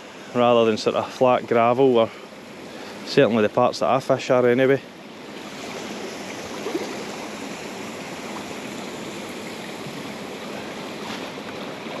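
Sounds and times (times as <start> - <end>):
river water running over rocks: 0.0 - 12.0.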